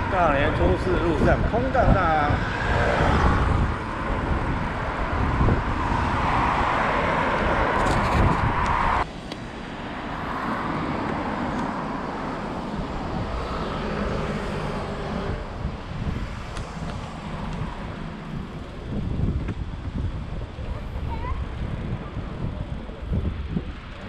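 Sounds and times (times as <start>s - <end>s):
wind on microphone: 0.0s - 9.1s, 10.2s - 24.0s
road noise: 0.0s - 24.0s.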